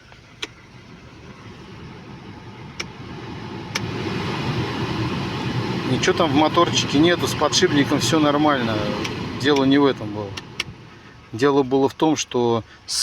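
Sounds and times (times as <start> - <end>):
fan speed control clicks: 0.0 - 11.5
heater blower fan running: 0.0 - 13.0.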